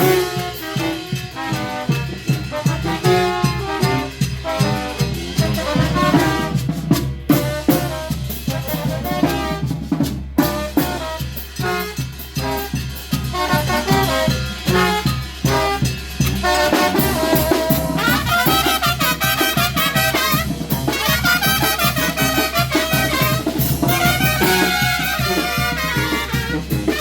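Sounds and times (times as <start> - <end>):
brass instruments playing: 0.0 - 27.0
drum beat: 0.0 - 27.0.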